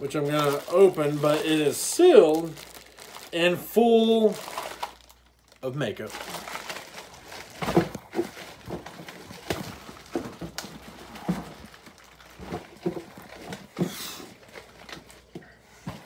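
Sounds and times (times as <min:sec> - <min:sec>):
plastic crinkling: 0:00.0 - 0:16.0.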